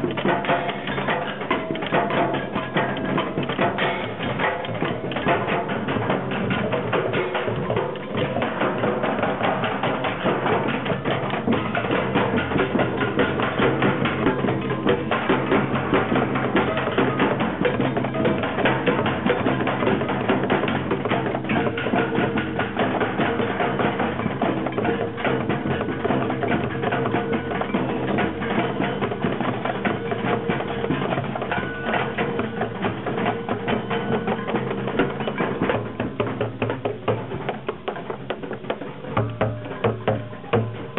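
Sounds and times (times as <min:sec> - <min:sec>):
group drumming fast rhythm: 0:00.0 - 0:40.9.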